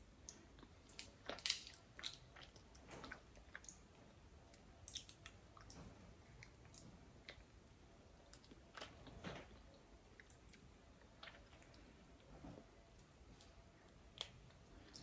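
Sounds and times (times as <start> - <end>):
wet chewing and mouth sounds: 0.2 - 15.0.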